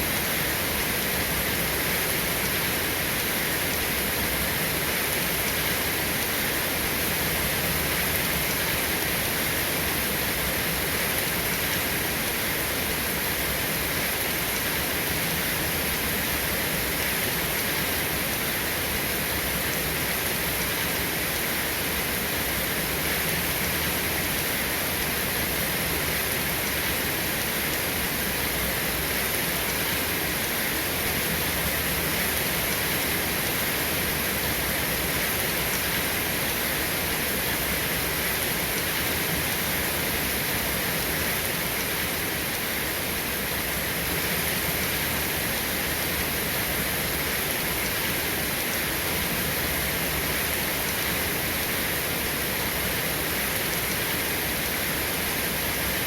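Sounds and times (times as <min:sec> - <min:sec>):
dense rainfall: 0:00.0 - 0:56.0.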